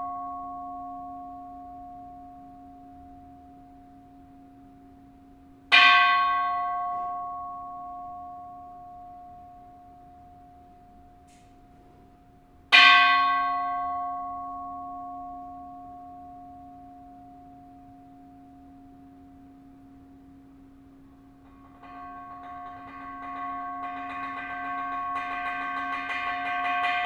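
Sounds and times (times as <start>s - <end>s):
temple bell ringing: 0.0s - 20.4s, 21.1s - 27.0s.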